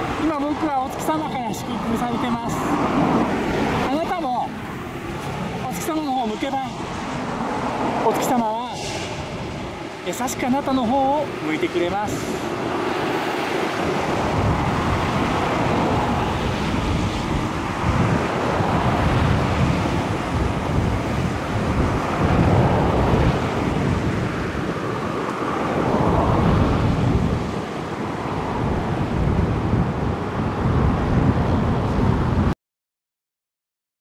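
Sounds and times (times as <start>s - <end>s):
wind buffeting microphone: 0.0s - 32.6s.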